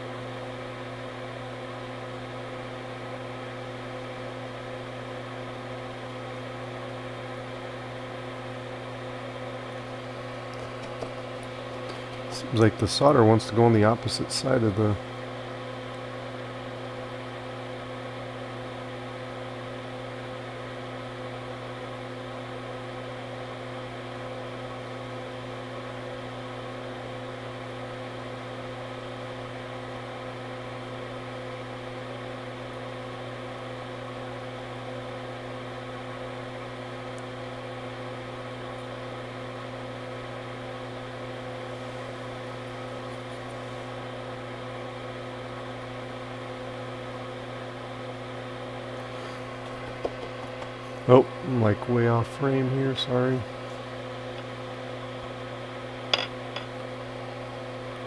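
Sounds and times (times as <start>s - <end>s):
small fan humming: 0.0s - 58.0s.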